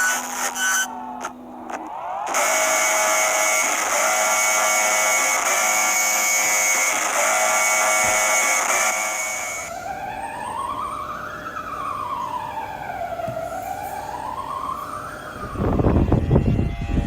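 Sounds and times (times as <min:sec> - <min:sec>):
buzzy alarm tone: 0:00.0 - 0:17.0.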